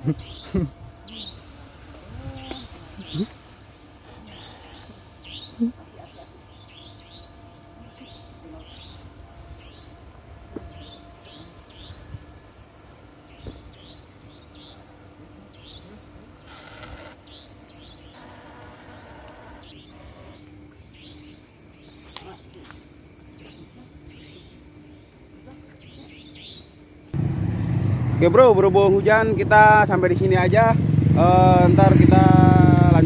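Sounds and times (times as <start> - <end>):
insect drone high tones: 0.0 - 33.0.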